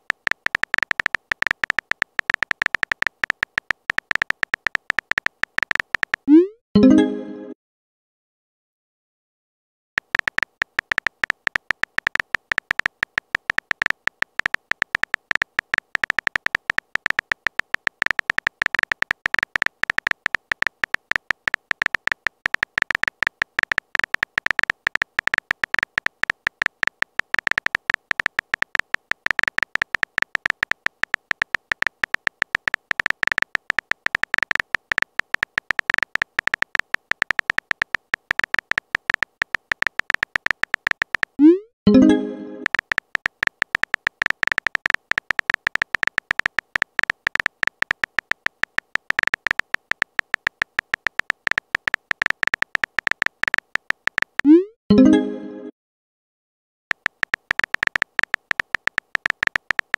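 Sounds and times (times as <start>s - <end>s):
phone keyboard taps: 0.0s - 6.3s, 10.0s - 41.4s, 42.6s - 54.5s, 56.9s - 59.9s.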